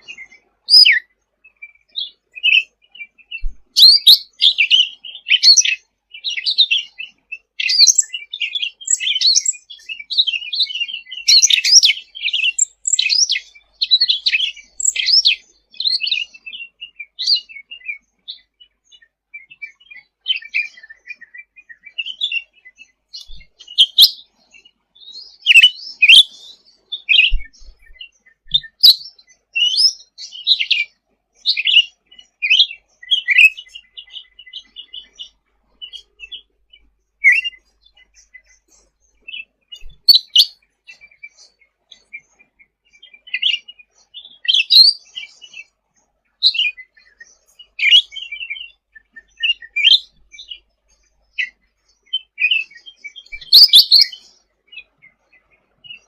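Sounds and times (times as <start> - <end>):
songbird chattering song: 0.0 - 56.0.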